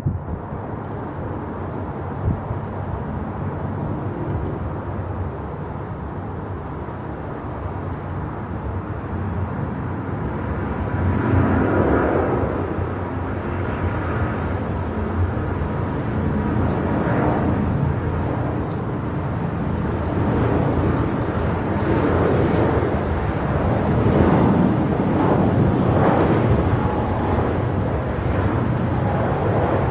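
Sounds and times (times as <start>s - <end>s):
jet engine rushing: 0.0s - 29.9s.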